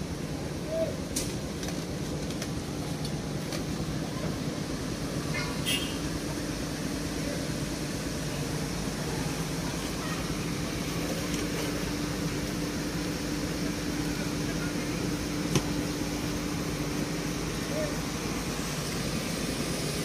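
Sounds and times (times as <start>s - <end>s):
excavator diesel engine humming: 0.0s - 20.0s.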